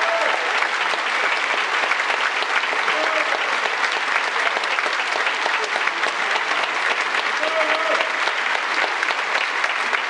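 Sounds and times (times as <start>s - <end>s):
large audience applauding: 0.0s - 10.0s.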